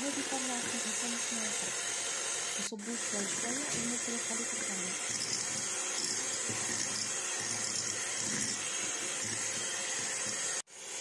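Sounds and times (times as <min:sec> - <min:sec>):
electric hand mixer whisking batter: 0:00.0 - 0:11.0.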